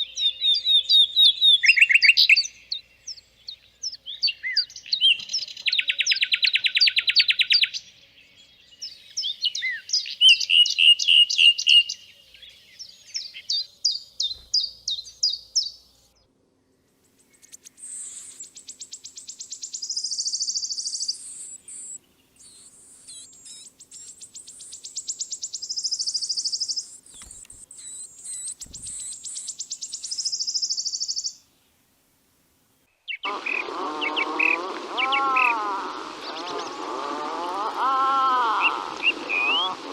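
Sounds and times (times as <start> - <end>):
songbirds singing trills: 0.0 - 31.4, 32.9 - 39.9.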